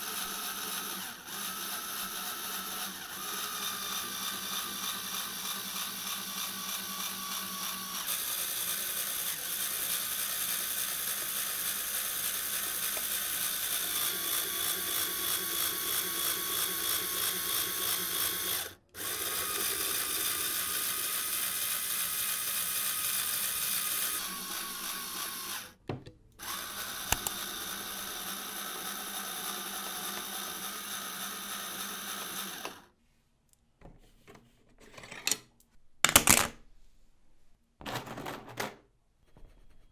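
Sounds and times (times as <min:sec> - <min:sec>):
small electric motor whirring: 0:00.0 - 0:25.8, 0:26.4 - 0:32.9.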